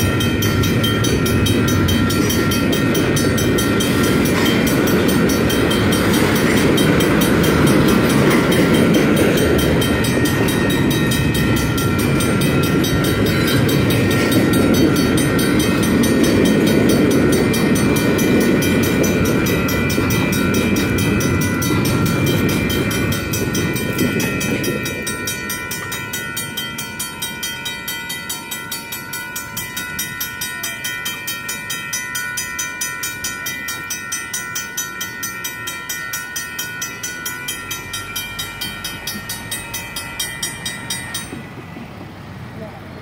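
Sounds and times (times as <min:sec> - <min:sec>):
freight train rumbling past: 0:00.0 - 0:43.0
railroad crossing bells ringing: 0:00.0 - 0:43.0.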